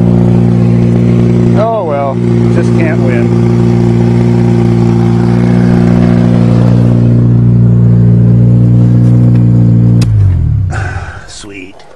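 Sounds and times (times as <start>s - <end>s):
car engine running steadily: 0.0s - 11.3s.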